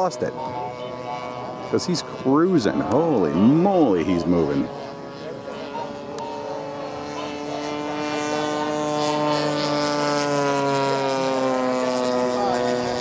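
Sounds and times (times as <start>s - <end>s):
model airplane propeller drone: 0.0s - 13.0s.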